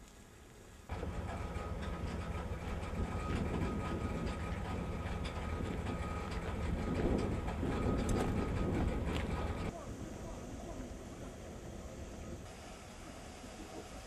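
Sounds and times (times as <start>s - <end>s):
low engine rumble: 0.1s - 14.0s.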